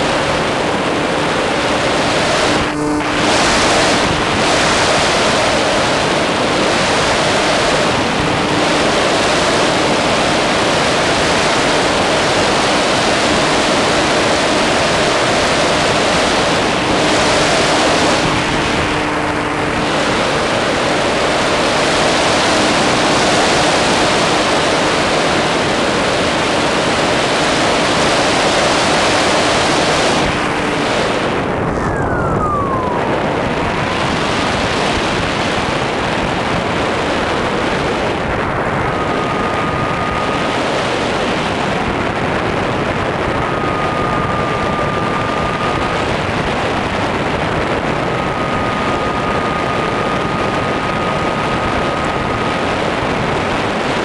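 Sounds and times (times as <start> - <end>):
electric motor and propeller hum: 0.0 - 54.0
wind rush over microphone: 0.0 - 54.0.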